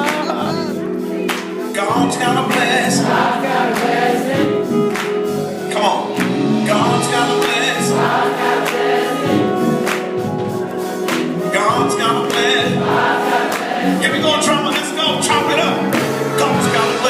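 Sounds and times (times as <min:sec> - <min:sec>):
gospel choir singing: 0:00.0 - 0:17.0.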